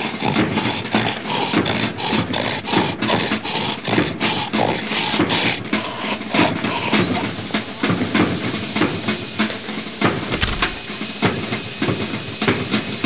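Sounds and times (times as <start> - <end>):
drill whining: 1.6 - 13.0.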